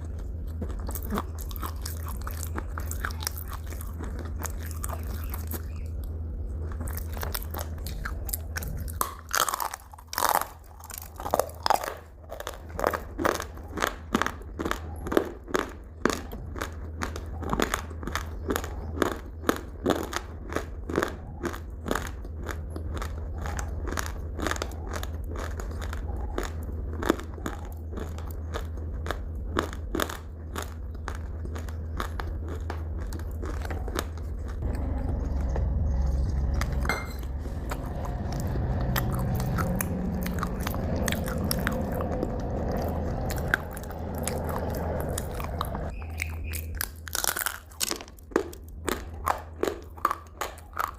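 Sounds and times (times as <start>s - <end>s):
chewing crunchy food: 0.0s - 50.9s.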